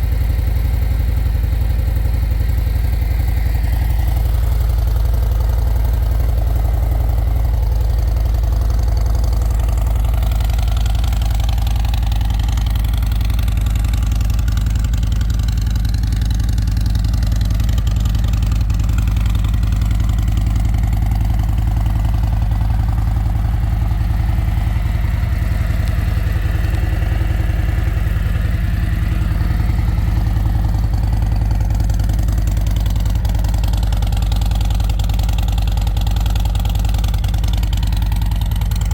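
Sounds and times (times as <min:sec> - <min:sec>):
motorcycle idling: 0:00.0 - 0:38.9.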